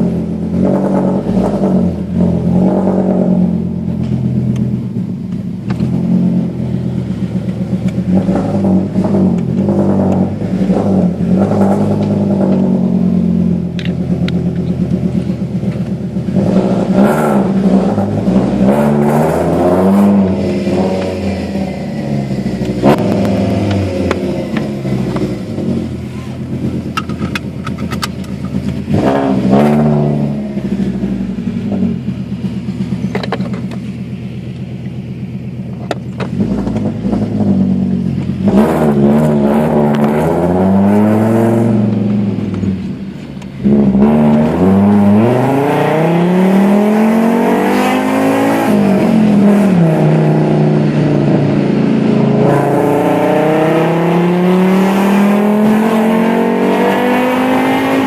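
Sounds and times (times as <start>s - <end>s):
car engine revving: 0.0s - 58.0s
exhaust crack: 0.0s - 58.0s.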